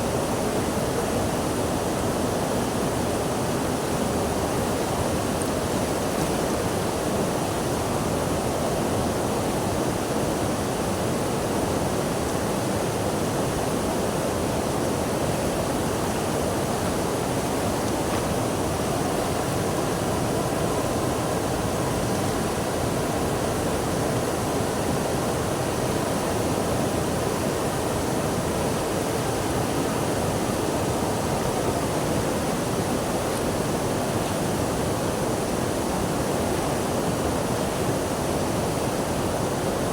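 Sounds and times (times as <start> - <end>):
water flowing: 3.3 - 39.8.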